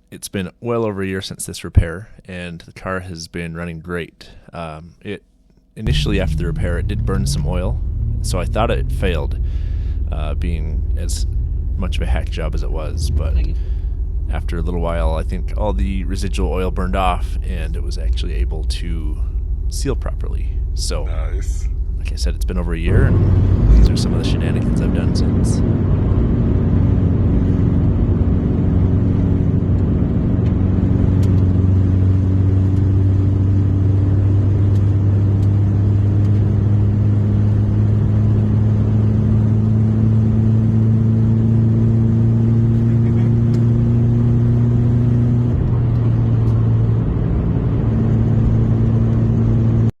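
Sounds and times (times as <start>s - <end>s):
car engine running: 5.8s - 49.9s.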